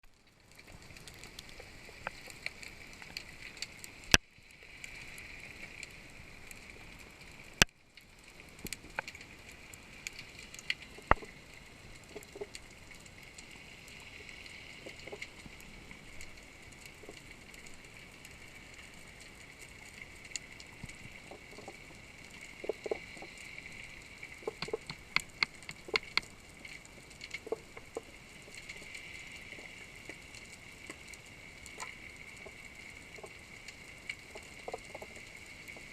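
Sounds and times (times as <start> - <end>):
underwater clicks and crackles: 0.0 - 35.9.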